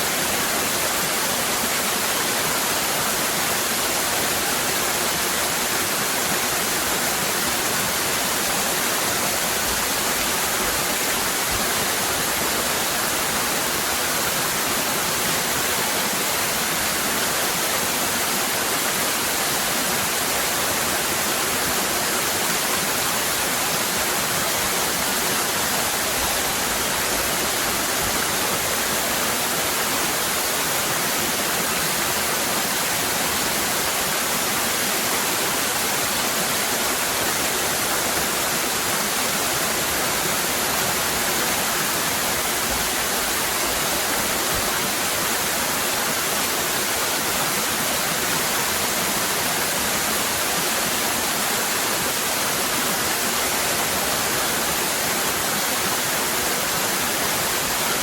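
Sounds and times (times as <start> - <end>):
waterfall cascading: 0.0 - 58.0.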